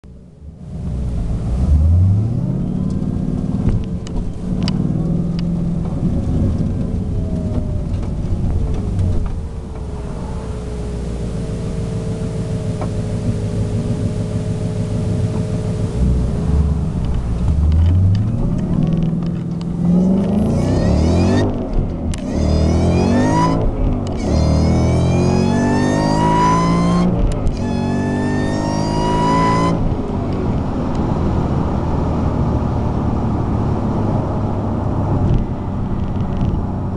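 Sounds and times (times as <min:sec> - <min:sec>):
car engine revving: 0:00.1 - 0:36.9
thin engine whine: 0:00.1 - 0:36.9.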